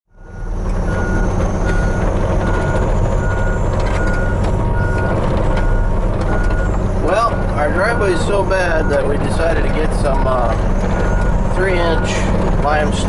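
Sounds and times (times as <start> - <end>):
backup alarm beeping: 0.1 - 12.3
diesel engine running: 0.1 - 13.0.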